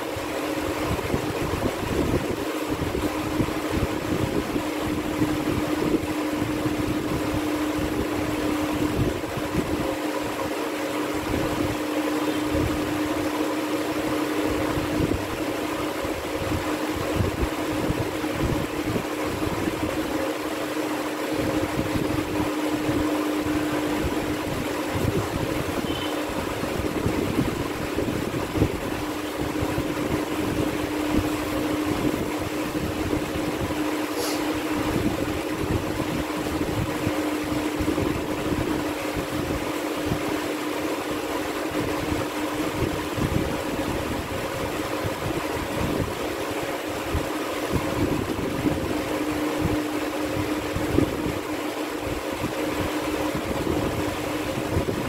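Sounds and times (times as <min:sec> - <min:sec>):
machine hum: 0:00.0 - 0:55.0.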